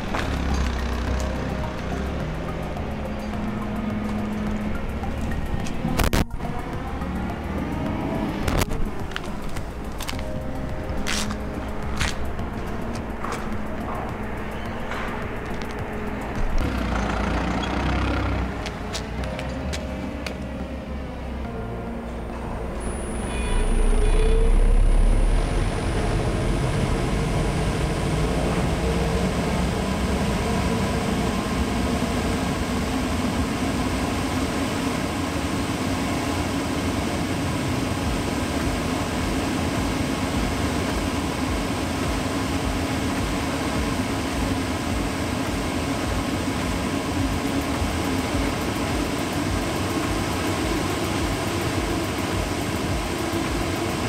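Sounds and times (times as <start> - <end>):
dust collector fan motor hum: 0.0 - 20.5, 22.8 - 54.0.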